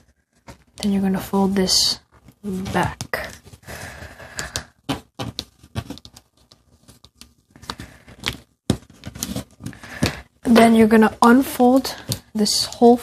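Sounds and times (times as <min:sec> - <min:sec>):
paper crinkling and rustling: 0:02.1 - 0:13.0.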